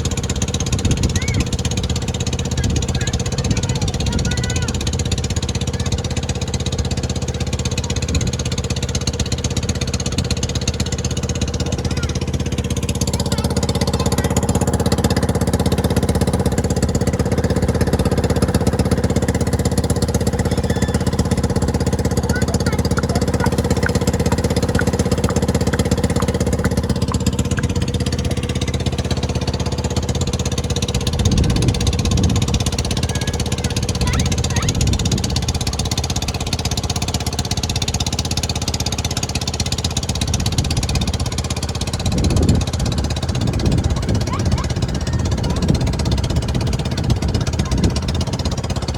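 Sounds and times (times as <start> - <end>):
engine running with rapid pulsing: 0.0 - 48.9.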